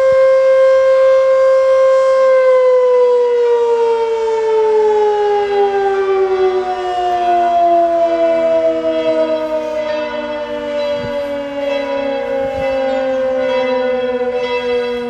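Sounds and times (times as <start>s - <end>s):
electric siren winding down: 0.0s - 15.0s.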